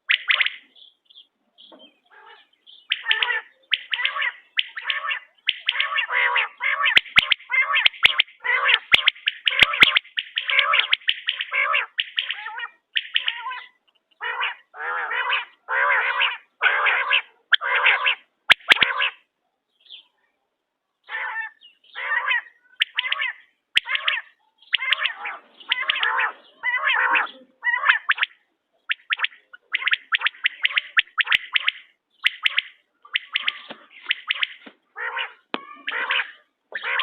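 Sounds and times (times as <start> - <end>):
quail calling: 0.0 - 0.9, 1.8 - 19.3, 21.0 - 37.0.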